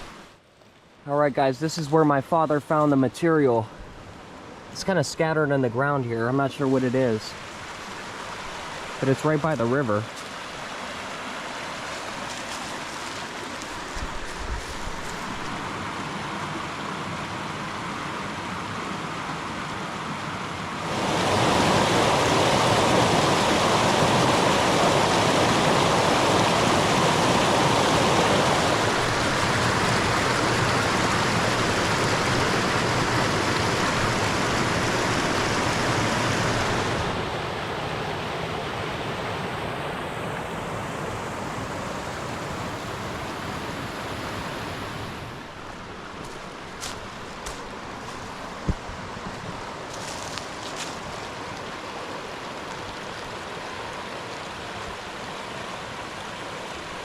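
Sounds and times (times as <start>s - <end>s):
creek water rushing over rocks: 0.0s - 0.4s, 1.4s - 57.0s.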